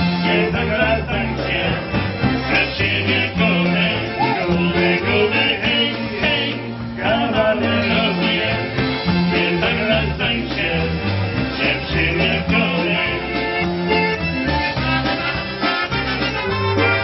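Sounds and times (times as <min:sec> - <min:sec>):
bass notes: 0:00.0 - 0:17.0
live polka band playing: 0:00.0 - 0:17.0.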